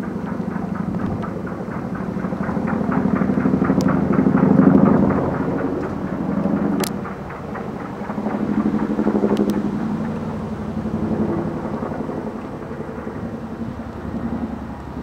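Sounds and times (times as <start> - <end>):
helicopter engine drone: 0.0 - 15.0
helicopter rotor blades beating: 0.0 - 15.0.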